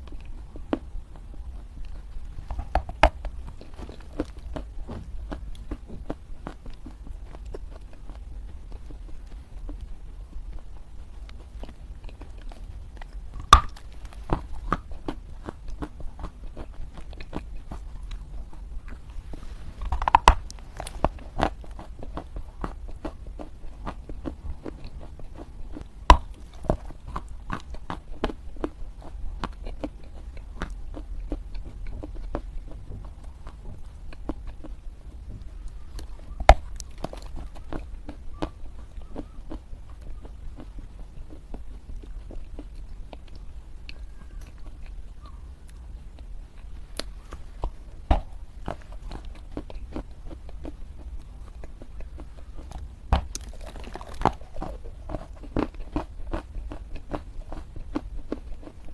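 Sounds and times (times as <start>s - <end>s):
dry clay crunching and cracking: 0.0s - 58.9s.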